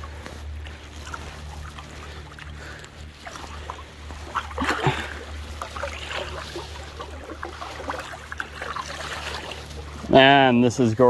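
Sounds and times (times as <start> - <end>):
water splash: 0.0 - 10.2
paddle strokes through water: 0.0 - 11.0
water trickling: 0.0 - 11.0.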